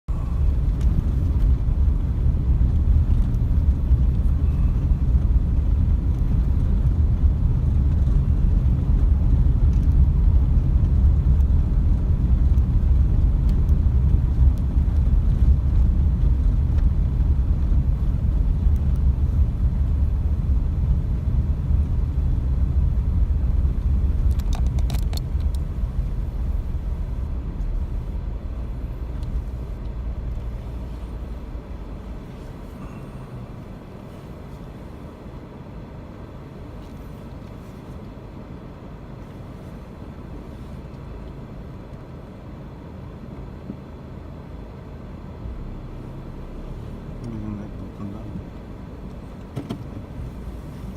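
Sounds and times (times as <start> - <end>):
loud steady low rumble: 0.0 - 50.9.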